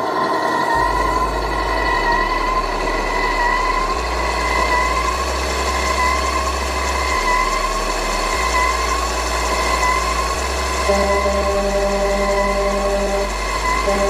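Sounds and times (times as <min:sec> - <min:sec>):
toy truck engine sound effect: 0:00.7 - 0:14.0.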